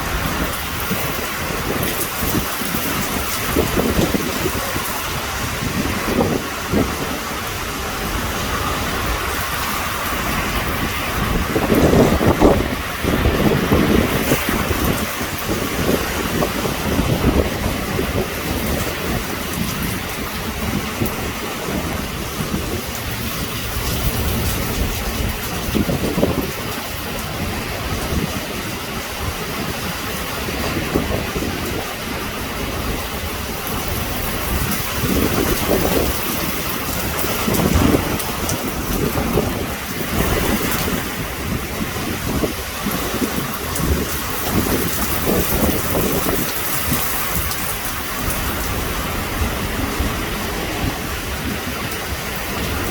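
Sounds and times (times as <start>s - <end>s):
heavy rain: 0.0s - 52.9s
thunder rumbling: 0.0s - 52.9s
wind buffeting microphone: 0.0s - 52.9s
wind gusting: 0.0s - 52.9s.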